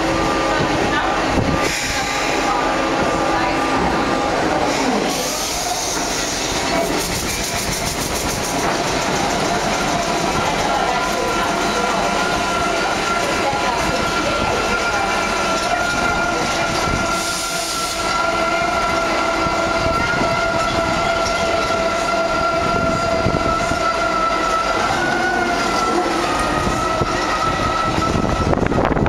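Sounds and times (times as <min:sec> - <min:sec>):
electric locomotive drive whine: 0:00.0 - 0:29.0
wheels rumbling on rail: 0:00.0 - 0:29.0.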